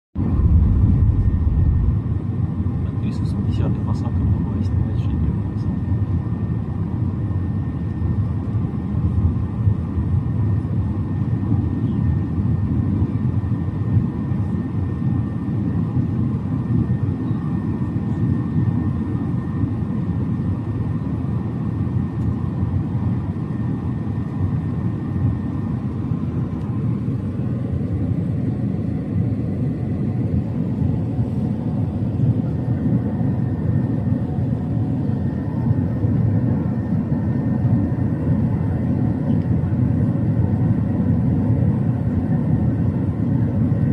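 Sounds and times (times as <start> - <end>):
airliner low rumble: 0.1 - 43.9.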